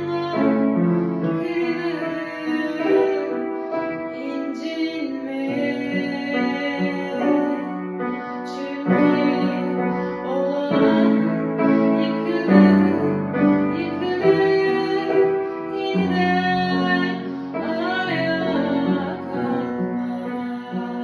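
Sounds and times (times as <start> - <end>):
piano accompaniment: 0.0 - 21.0
woman singing a slow ballad: 0.0 - 21.0.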